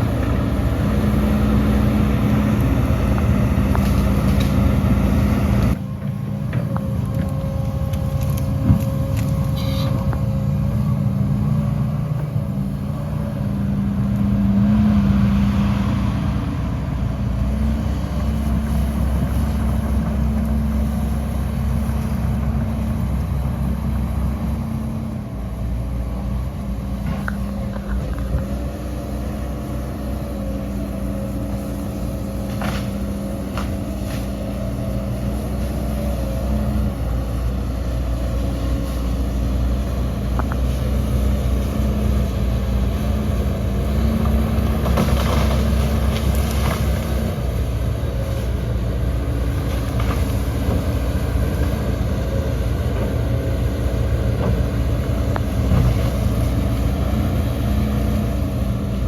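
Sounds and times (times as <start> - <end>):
heavy diesel engines running: 0.0 - 59.0.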